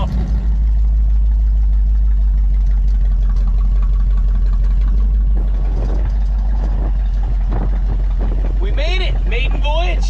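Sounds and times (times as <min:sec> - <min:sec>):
car engine rumbling in cabin: 0:00.0 - 0:10.0.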